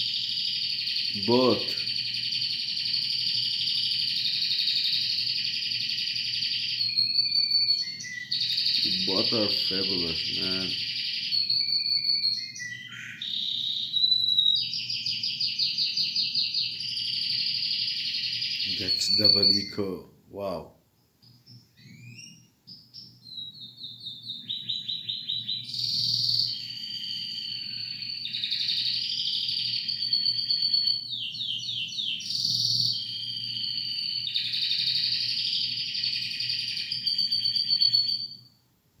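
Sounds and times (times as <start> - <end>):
canary singing and trilling: 0.0 - 20.6, 21.2 - 38.6.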